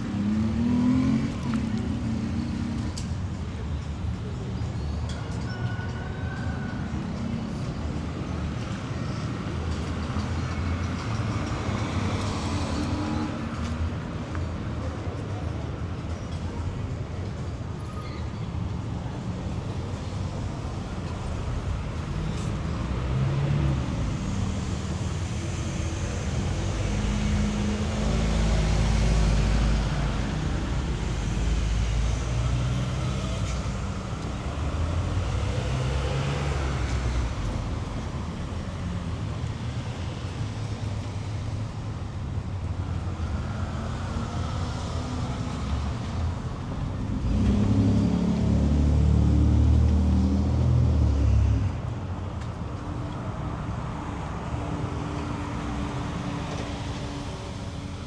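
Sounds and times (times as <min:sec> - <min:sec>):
street traffic engine hum: 0:00.0 - 0:58.0.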